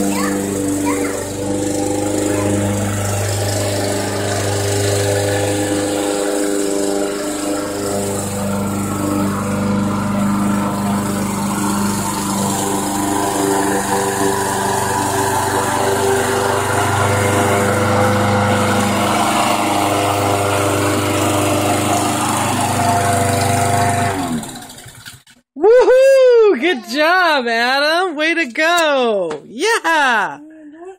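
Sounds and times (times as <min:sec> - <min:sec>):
lawn mower engine running: 0:00.0 - 0:25.4.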